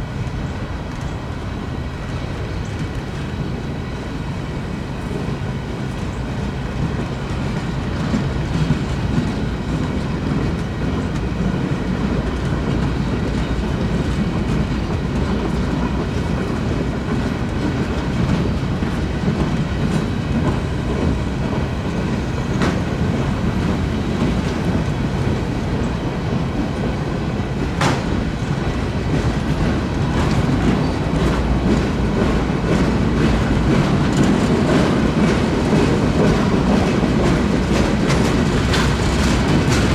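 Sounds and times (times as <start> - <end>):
clickety-clack over rail joints: 0.0 - 39.9
train wheels rumbling on rail: 0.0 - 39.9.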